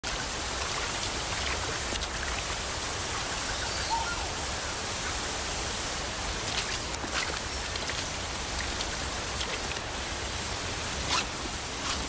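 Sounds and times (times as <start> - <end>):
rushing water hiss: 0.0 - 12.0.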